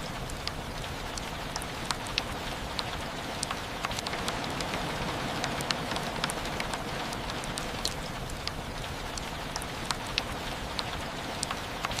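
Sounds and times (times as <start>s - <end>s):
raindrops tapping: 0.0s - 12.0s
steady rain hiss: 0.0s - 12.0s.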